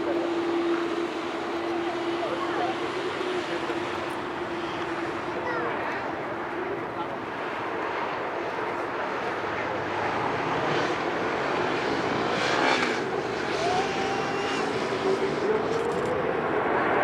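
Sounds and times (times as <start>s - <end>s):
rising engine whine: 0.0s - 6.6s, 9.6s - 17.0s
jet airliner engines roaring: 0.0s - 17.0s.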